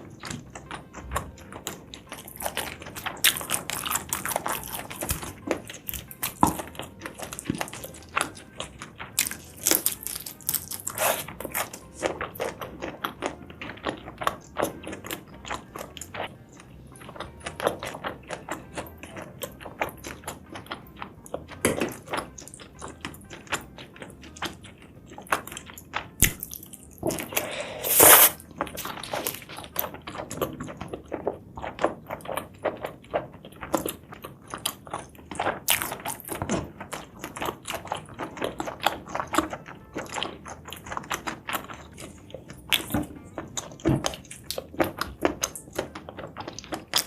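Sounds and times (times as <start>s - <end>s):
person chewing food: 0.0s - 47.0s.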